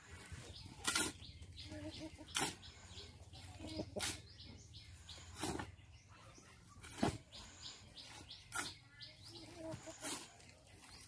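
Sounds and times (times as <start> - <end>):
shovel scraping sand and cement: 0.0 - 4.4, 5.0 - 6.0, 6.6 - 11.0
birds chirping faintly: 0.0 - 11.0.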